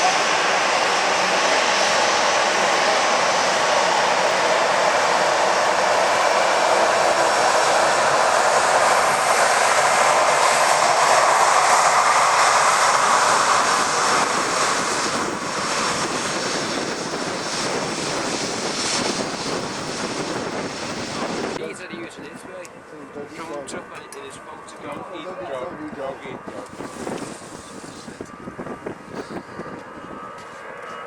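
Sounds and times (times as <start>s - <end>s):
jet airliner engine roar: 0.0s - 31.0s.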